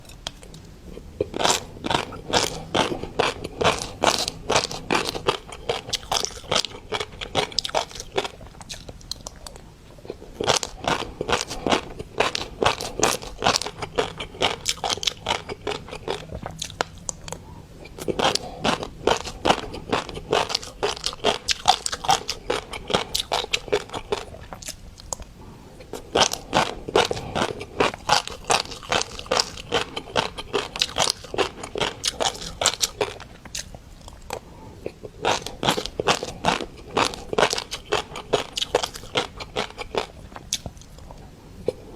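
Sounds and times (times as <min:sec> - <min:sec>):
chewing crunchy fish roe: 0:00.0 - 0:41.9.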